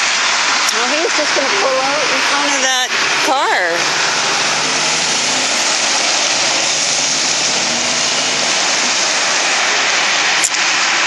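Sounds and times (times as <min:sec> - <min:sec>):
truck road and engine roar: 0:00.0 - 0:11.0.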